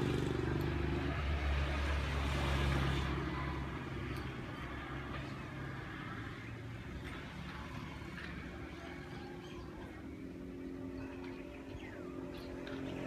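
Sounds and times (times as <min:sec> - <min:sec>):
faint outdoor background noise: 0:00.0 - 0:13.0
vehicle engine passing: 0:00.0 - 0:13.0.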